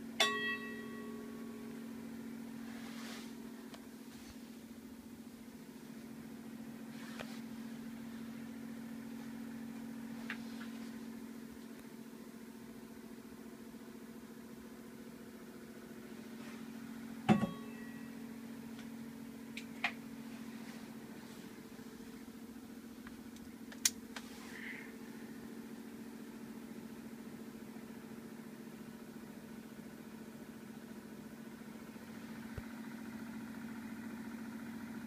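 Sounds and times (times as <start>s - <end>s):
electric fan humming: 0.0s - 35.0s.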